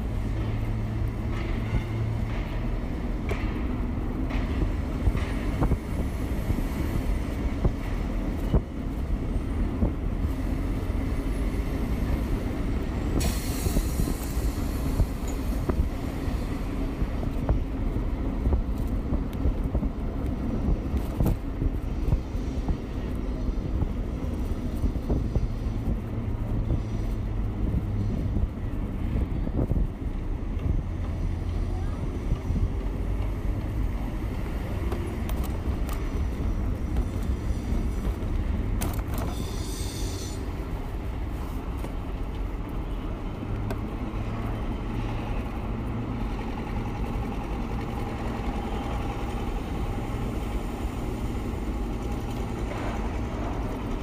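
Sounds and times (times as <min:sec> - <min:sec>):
city street traffic: 0:00.0 - 0:54.0
low road rumble: 0:00.0 - 0:54.0.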